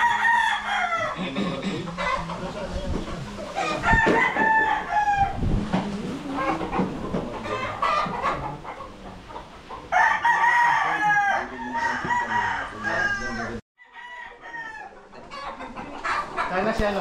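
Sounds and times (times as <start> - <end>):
roosters crowing: 0.0 - 16.7
roosters clucking: 0.0 - 17.0.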